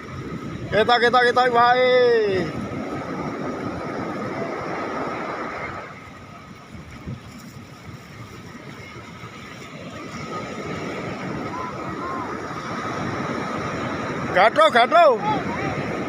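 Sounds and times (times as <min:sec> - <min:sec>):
water: 0:00.0 - 0:16.0
wind: 0:00.0 - 0:16.0.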